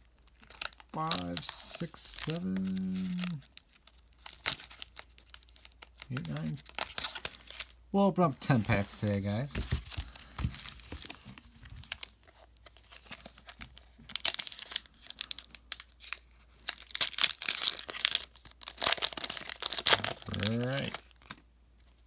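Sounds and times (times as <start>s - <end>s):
foil wrapper crinkling and ripping: 0.0s - 7.8s, 8.4s - 22.0s.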